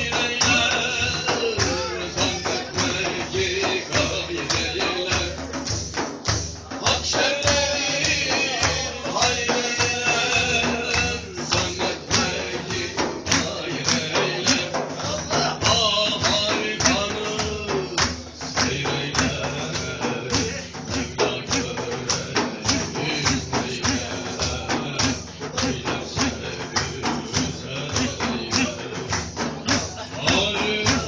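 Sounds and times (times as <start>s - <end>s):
tambourine beat: 0.0s - 31.0s.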